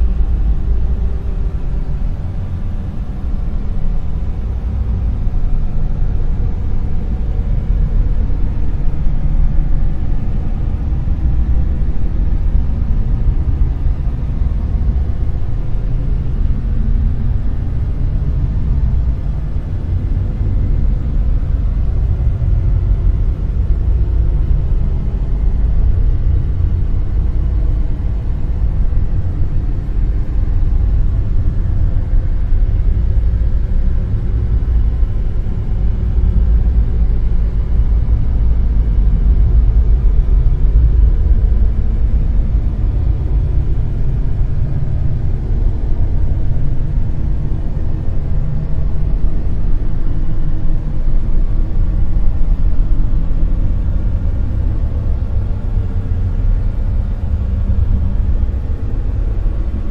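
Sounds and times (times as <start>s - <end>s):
deep rumbling hiss: 0.0s - 59.9s.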